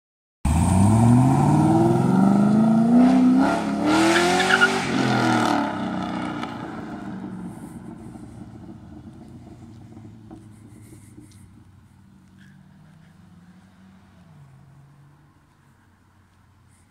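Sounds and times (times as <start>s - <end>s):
car engine accelerating hard: 0.5s - 15.3s.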